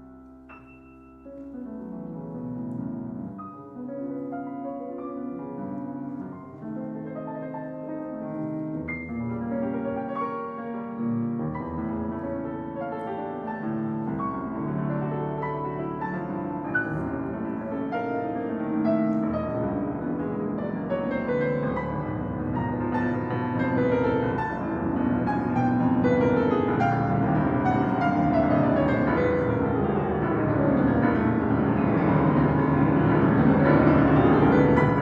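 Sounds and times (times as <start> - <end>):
solo piano playing runs: 0.0 - 35.0.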